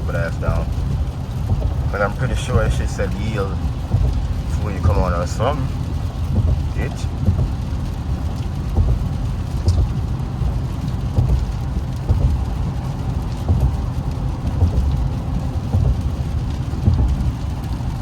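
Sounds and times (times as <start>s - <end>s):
car cabin road rumble: 0.0s - 18.0s
rain on car: 0.0s - 18.0s.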